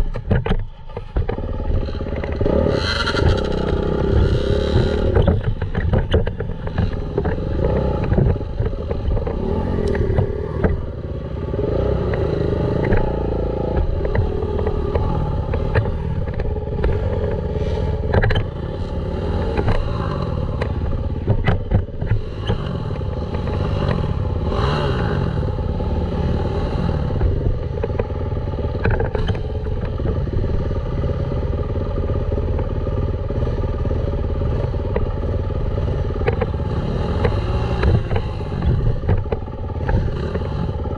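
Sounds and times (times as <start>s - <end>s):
dirt bike engine running: 0.0s - 40.9s
knocks and rattles over rough ground: 0.0s - 40.9s.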